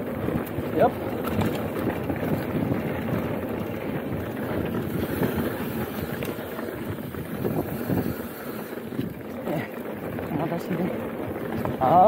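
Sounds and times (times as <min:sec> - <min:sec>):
wind buffeting microphone: 0:00.0 - 0:12.0
faint bike clicks: 0:00.2 - 0:12.0.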